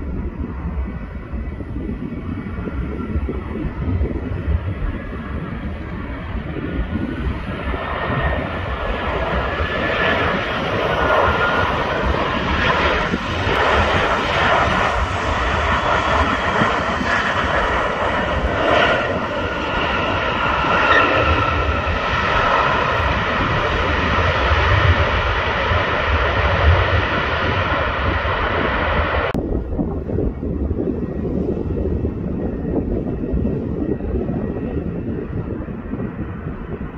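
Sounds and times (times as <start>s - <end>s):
jet engines running: 0.0s - 36.9s.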